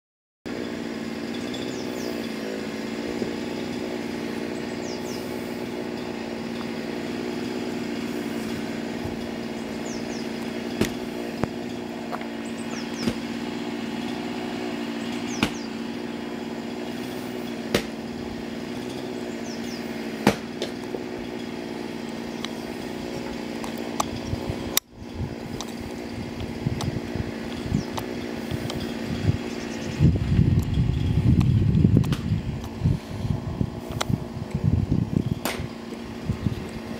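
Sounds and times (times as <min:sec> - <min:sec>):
small engine running: 0:00.5 - 0:36.9.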